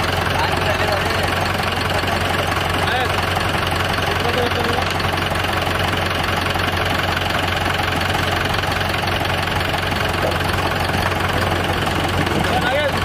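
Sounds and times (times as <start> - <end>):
tractor diesel engines idling: 0.0 - 13.0.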